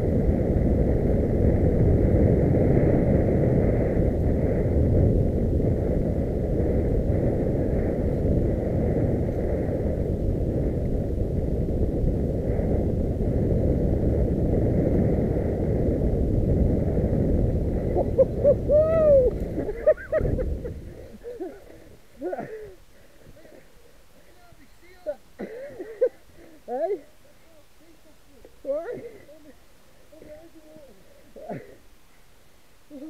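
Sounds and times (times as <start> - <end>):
wind on microphone: 0.0 - 31.8
bike trail rumble: 0.0 - 33.0.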